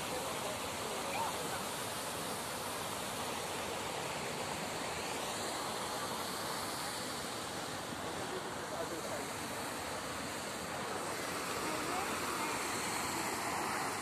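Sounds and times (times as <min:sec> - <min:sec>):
rushing outdoor ambience hiss: 0:00.0 - 0:14.0.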